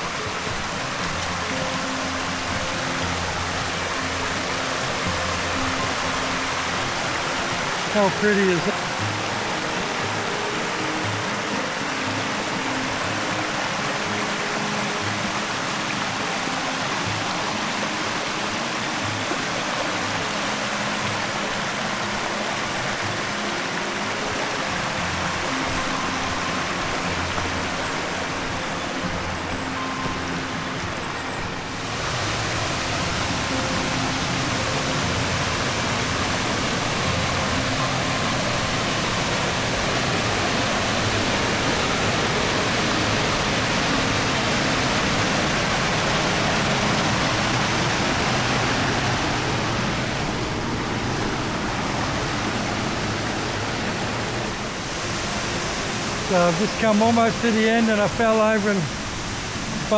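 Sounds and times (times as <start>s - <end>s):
creek water and waterfall rushing: 0.0s - 59.9s
faint music: 0.0s - 59.9s.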